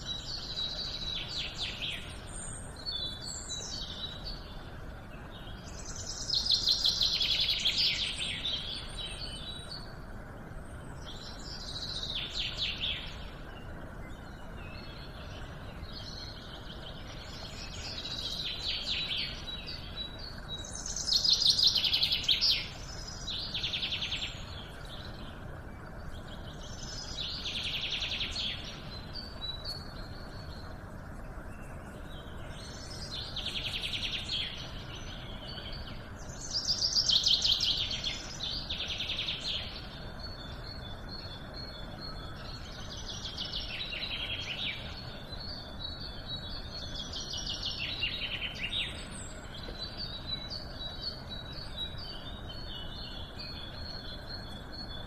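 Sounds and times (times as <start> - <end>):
songbirds trilling: 0.0 - 55.0.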